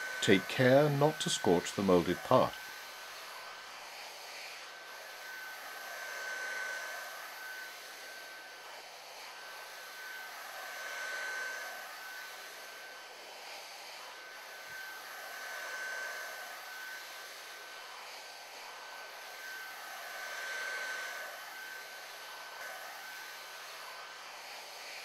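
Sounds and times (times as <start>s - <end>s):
heat gun blowing with whine: 0.0s - 25.0s.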